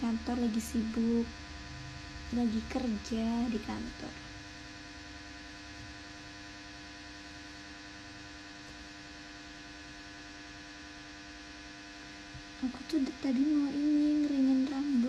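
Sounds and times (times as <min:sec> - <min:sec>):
faint buzzy electrical hum: 0:00.0 - 0:15.0.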